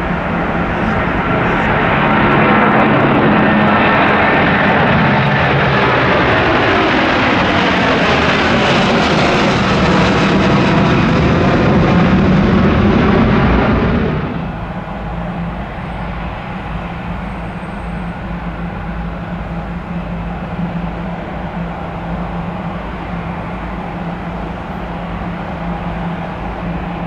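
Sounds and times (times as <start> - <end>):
jet engines passing close: 0.0 - 27.0.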